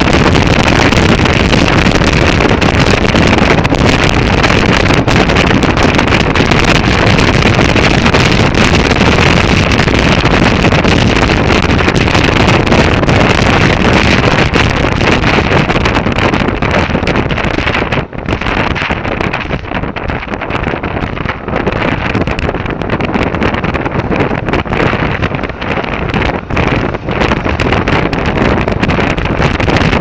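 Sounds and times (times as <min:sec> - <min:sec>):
motorcycle engine: 0:00.0 - 0:30.0
road noise: 0:00.0 - 0:30.0
wind rush over microphone: 0:00.0 - 0:30.0.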